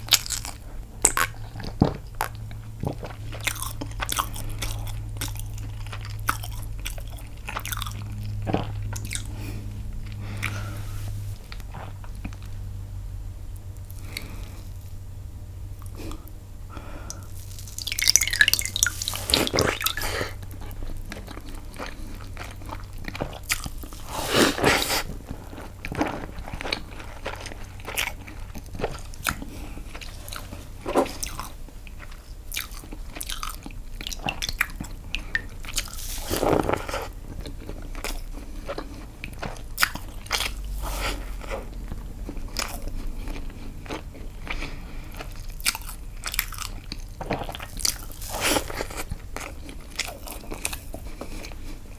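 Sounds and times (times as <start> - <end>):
chewing sponge cake: 0.0 - 12.7, 17.1 - 51.9.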